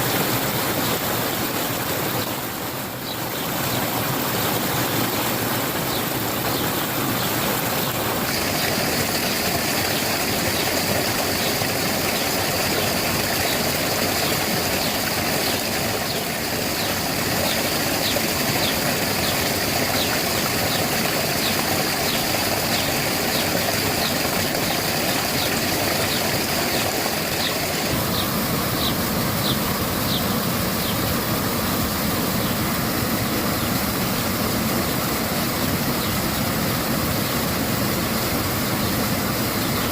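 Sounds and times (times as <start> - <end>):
spring water rushing and splashing: 0.0 - 39.9.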